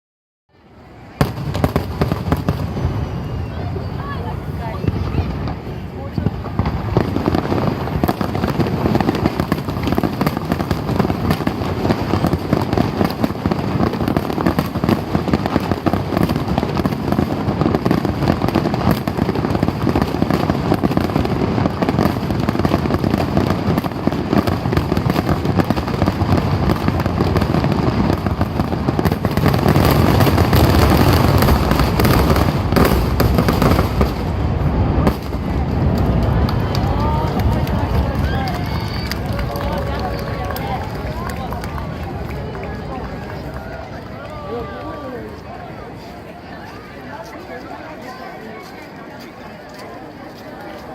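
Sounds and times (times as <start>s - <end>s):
fireworks bursting and crackling: 0.8s - 50.9s.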